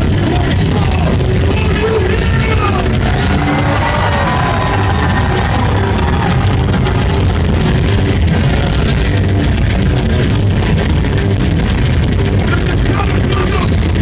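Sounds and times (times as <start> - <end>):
bass guitar: 0.0 - 14.0
distorted electric guitars: 0.0 - 14.0
pounding drums and cymbals: 0.0 - 14.0.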